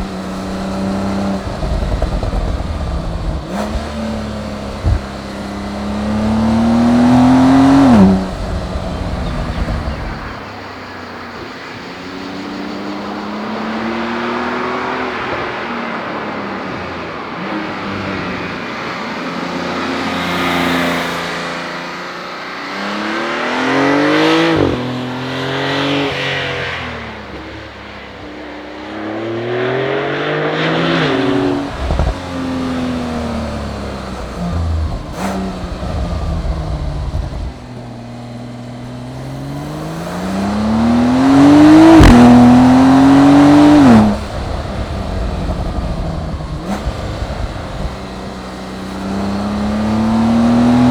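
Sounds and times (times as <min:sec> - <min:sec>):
car engine revving hard: 0:00.0 - 0:50.9.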